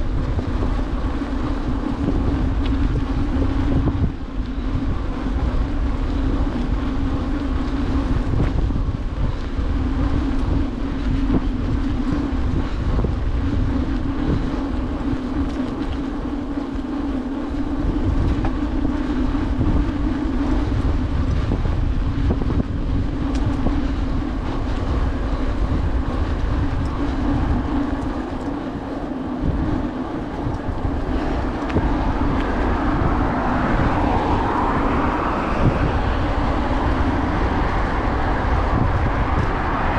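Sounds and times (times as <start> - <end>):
bicycle tyres humming on pavement: 0.0 - 39.9
wind buffeting microphone: 0.0 - 39.9.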